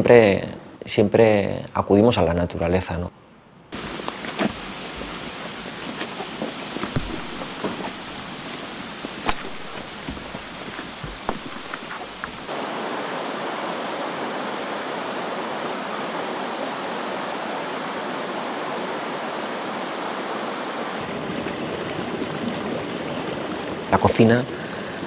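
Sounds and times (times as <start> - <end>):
stream water rushing: 3.7 - 25.0.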